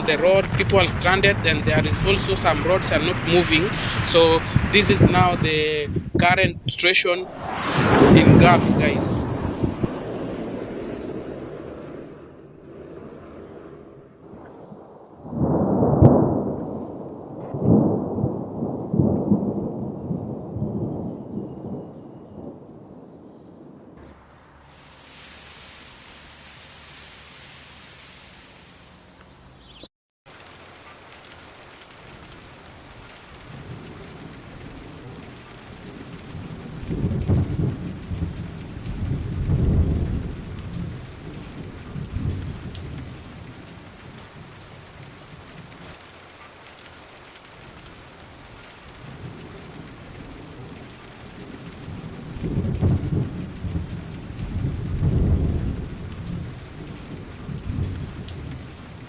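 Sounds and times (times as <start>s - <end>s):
steady rain: 0.0s - 6.3s, 14.2s - 21.1s, 24.0s - 59.0s
thunder rumbling: 0.0s - 29.6s, 31.5s - 46.4s, 47.2s - 59.0s.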